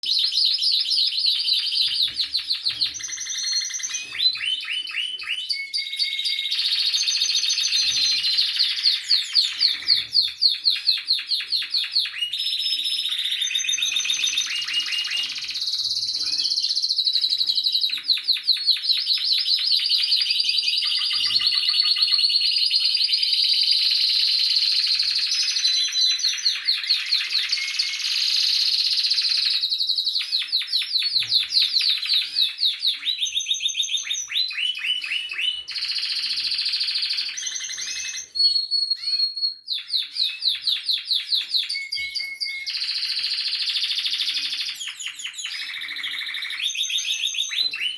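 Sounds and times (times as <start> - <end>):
canaries singing trills: 0.0 - 47.9.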